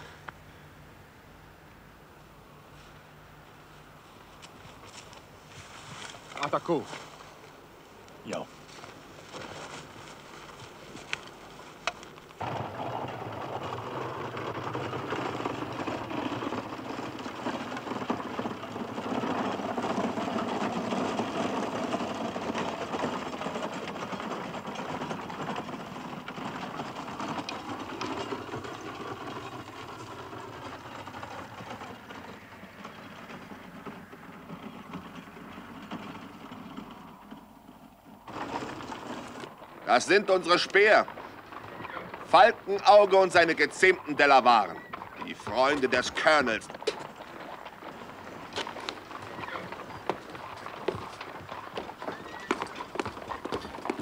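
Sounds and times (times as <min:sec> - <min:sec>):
horse-drawn cart rattling: 0:04.3 - 0:54.0.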